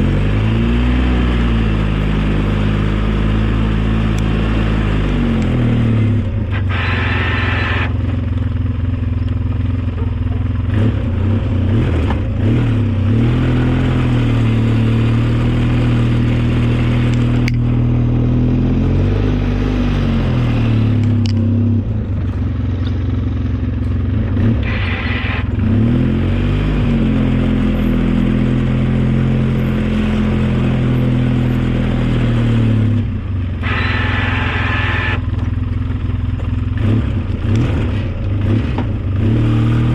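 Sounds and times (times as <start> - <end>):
snowplow engine revving: 0.0 - 39.9.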